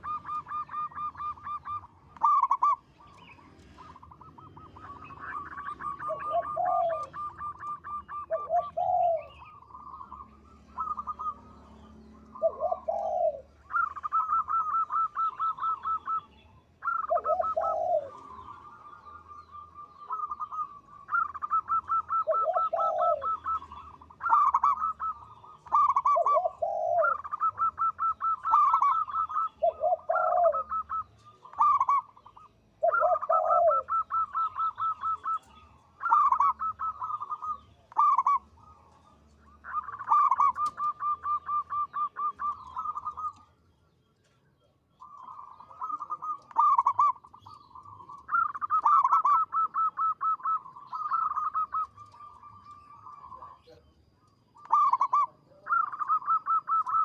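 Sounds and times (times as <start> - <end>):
dove cooing trill: 0.0 - 57.0.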